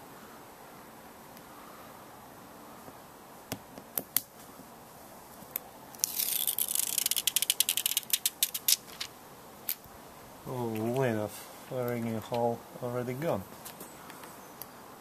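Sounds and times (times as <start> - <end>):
scratchy hiss: 0.0 - 15.0.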